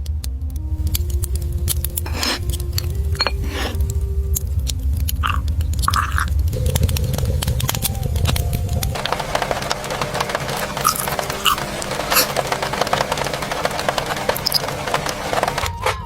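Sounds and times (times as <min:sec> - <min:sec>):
soft music with deep bass: 0:00.0 - 0:16.0
crunchy chewing: 0:00.8 - 0:15.6.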